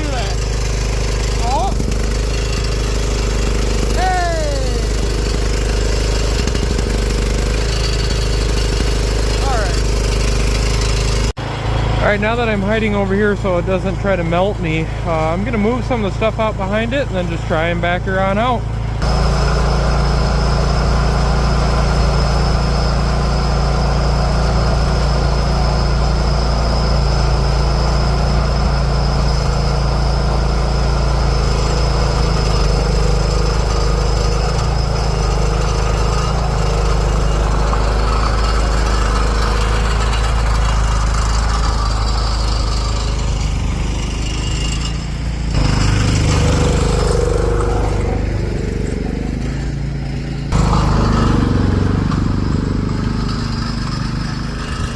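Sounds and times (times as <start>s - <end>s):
lawn tractor engine under load: 0.0s - 54.9s.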